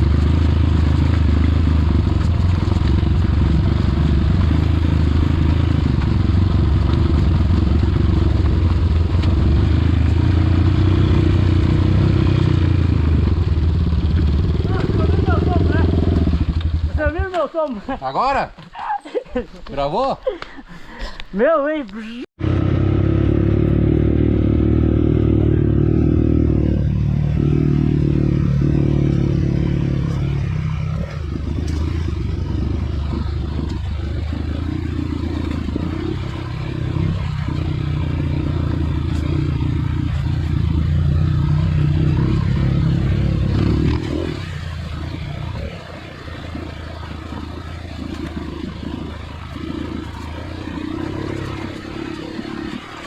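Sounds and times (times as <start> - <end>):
motorcycle engine under throttle: 0.0 - 17.6, 22.4 - 53.0.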